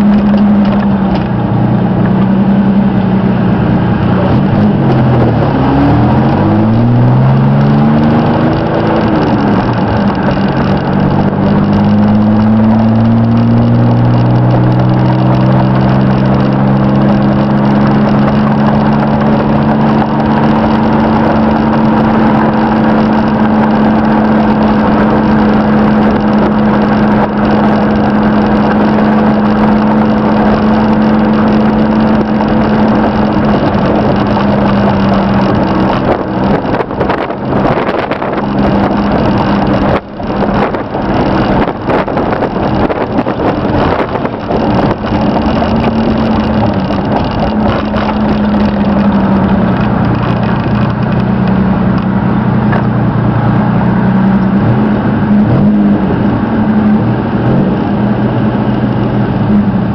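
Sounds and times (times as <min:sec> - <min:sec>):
engine drone inside car: 0:00.0 - 0:59.9
road noise: 0:00.0 - 0:59.9.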